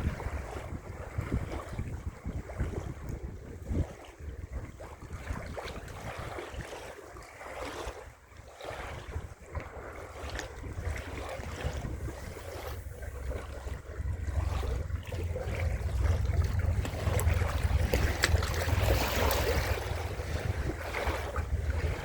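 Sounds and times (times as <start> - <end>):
waves on a shore: 0.0 - 22.0
wind buffeting the microphone: 0.0 - 22.0.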